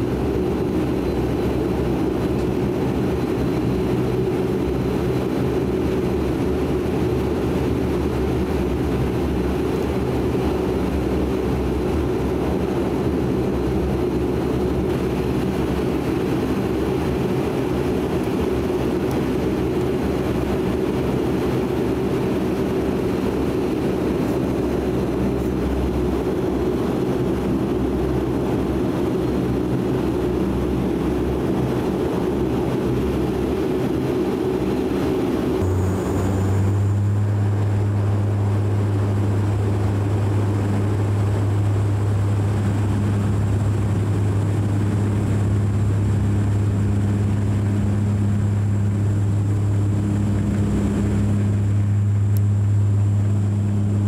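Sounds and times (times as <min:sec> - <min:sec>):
turboprop propeller drone: 0:00.0 - 0:54.0.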